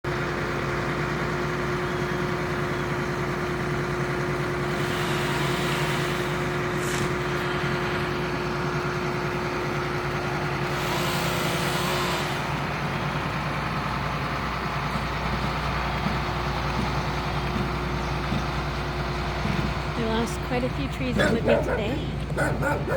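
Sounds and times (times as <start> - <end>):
large engine idling: 0.0 - 22.9.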